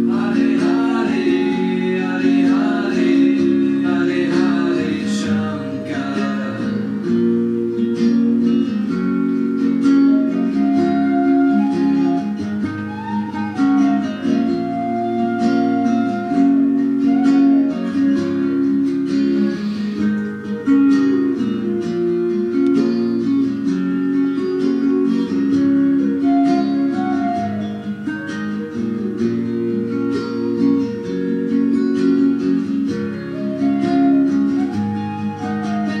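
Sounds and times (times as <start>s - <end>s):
plucked acoustic guitar: 0.0s - 36.0s.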